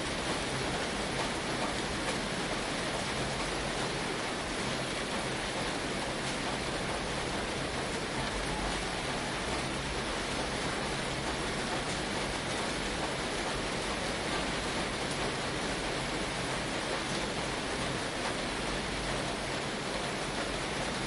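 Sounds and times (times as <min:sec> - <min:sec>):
rain on a tin roof: 0:00.0 - 0:21.0.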